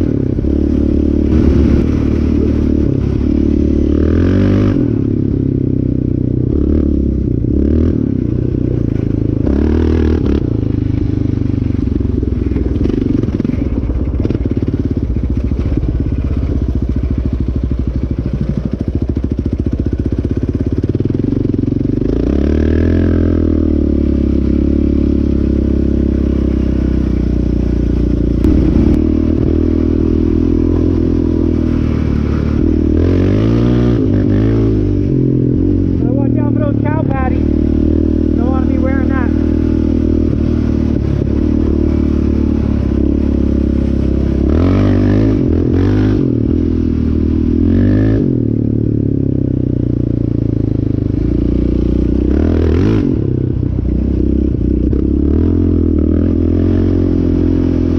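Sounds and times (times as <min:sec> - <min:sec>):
quad bike engine revving: 0:00.0 - 0:57.9.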